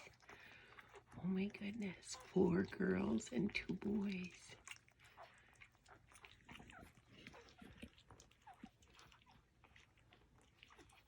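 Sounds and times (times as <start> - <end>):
soft wet licking: 0.0 - 11.0.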